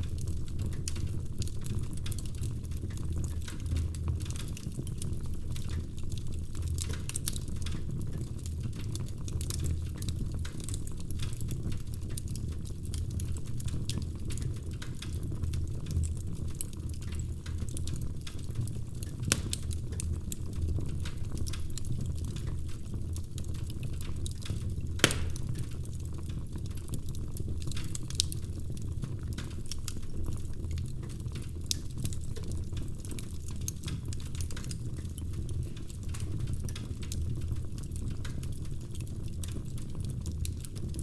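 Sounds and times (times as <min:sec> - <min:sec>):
low rumble of flames: 0:00.0 - 0:41.0
wood fire crackling: 0:00.0 - 0:41.0.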